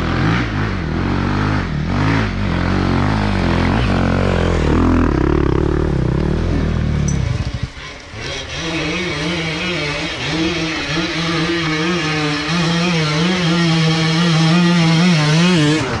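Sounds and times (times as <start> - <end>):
motorbike engine at low speed: 0.0 - 16.0.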